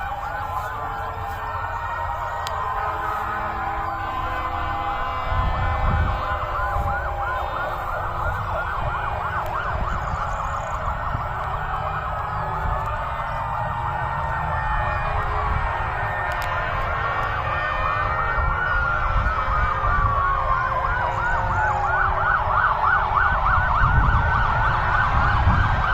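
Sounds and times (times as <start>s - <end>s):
fire engine sirens yelping: 0.0s - 25.9s
siren wail rising and falling: 0.0s - 25.9s.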